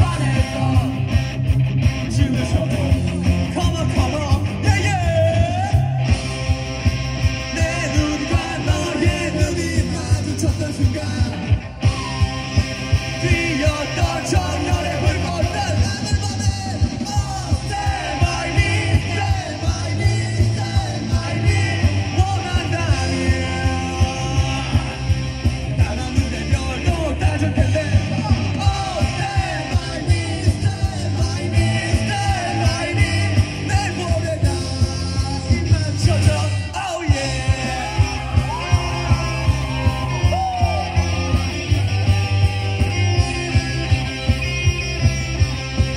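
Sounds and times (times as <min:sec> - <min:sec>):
man singing and shouting: 0:00.0 - 0:06.5, 0:07.2 - 0:45.9
driving drum beat: 0:00.0 - 0:45.9
rock band playing: 0:00.0 - 0:45.9.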